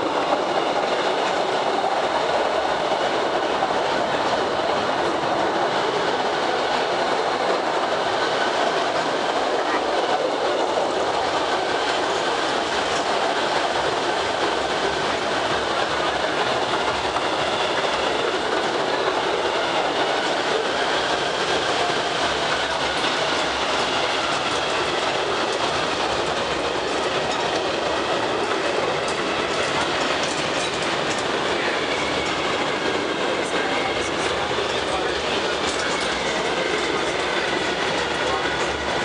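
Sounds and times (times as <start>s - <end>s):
train running along track: 0.0s - 39.0s.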